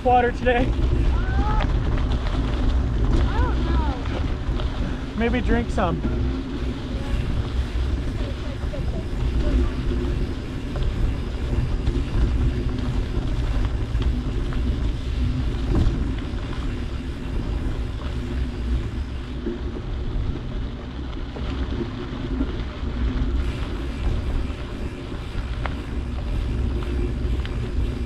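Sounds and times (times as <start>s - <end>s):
tyres rolling over dirt road: 0.0s - 28.0s
wind buffeting microphone: 0.0s - 28.0s.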